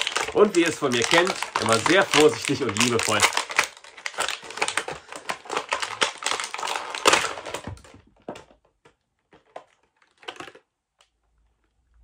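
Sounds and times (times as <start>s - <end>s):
plastic packaging crinkling: 0.0s - 8.5s, 9.2s - 10.7s.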